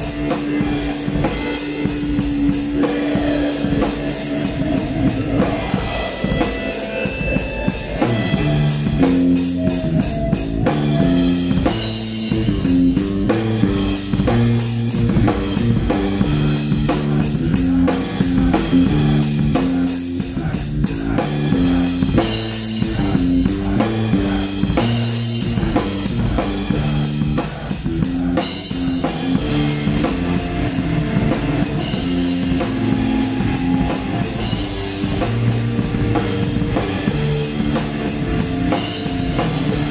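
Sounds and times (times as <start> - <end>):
drum kit with rapid cymbal hits: 0.0 - 39.9
electric guitar riff: 0.0 - 39.9.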